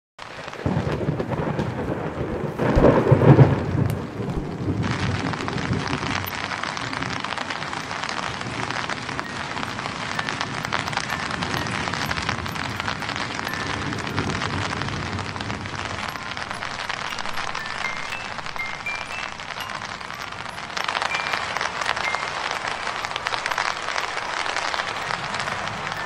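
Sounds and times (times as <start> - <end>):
rain falling: 0.2 - 26.0
thunder rumble: 0.2 - 26.0.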